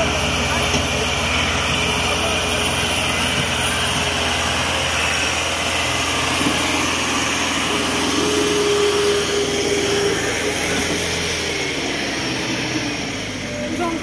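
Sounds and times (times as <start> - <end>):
steady whine: 0.0 - 14.0
tractor diesel engine running: 0.0 - 14.0.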